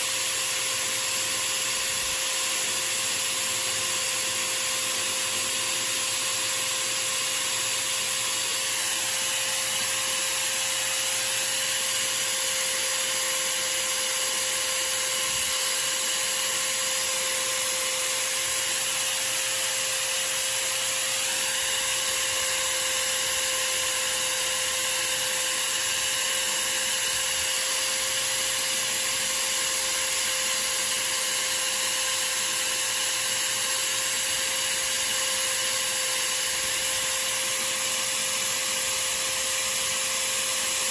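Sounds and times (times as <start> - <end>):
lathe motor whine and hiss: 0.0 - 40.9.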